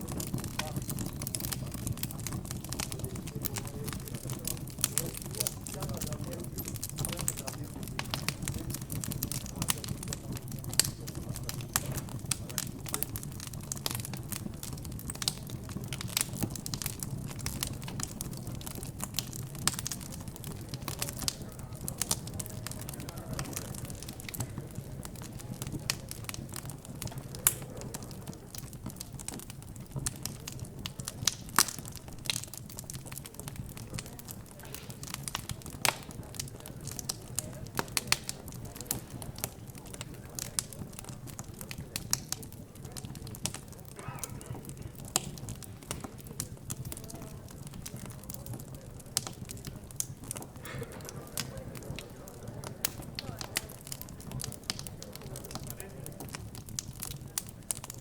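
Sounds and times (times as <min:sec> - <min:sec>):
murmur of background chatter: 0:00.0 - 0:58.0
wood fire crackling and popping: 0:00.0 - 0:58.0.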